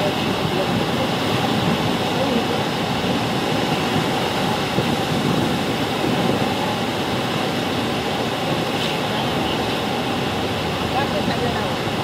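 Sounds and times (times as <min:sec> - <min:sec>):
churning river water: 0:00.0 - 0:12.0
waterfall rushing: 0:00.0 - 0:12.0.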